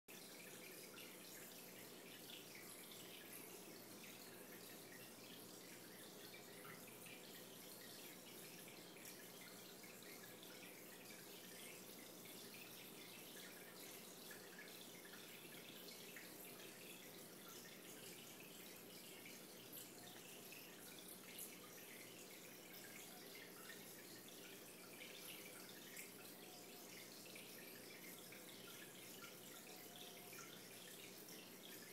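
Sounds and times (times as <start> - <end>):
aquarium water dripping: 0.1 - 31.9.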